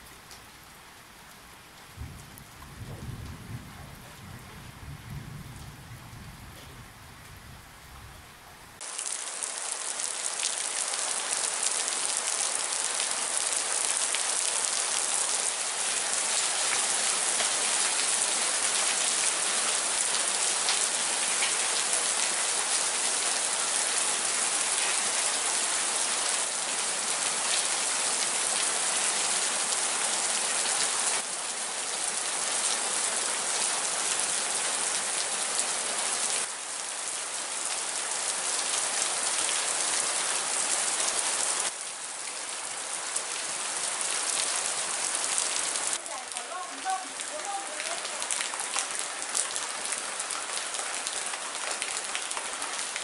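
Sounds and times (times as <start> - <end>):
heavy rain on wet concrete: 0.0 - 53.0.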